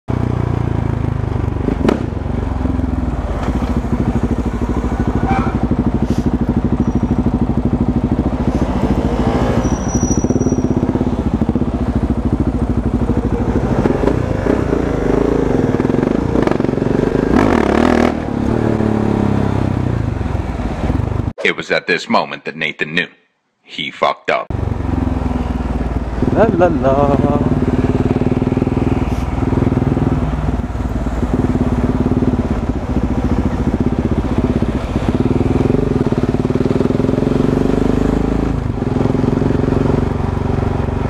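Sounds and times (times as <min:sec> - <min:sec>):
motorcycle engine running: 0:00.1 - 0:21.3, 0:24.5 - 0:41.0.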